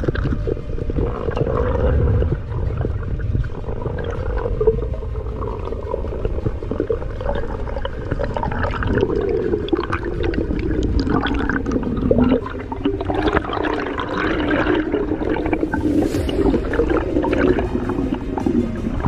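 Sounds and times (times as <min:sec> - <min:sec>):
underwater rush and gurgle: 0:00.0 - 0:19.0.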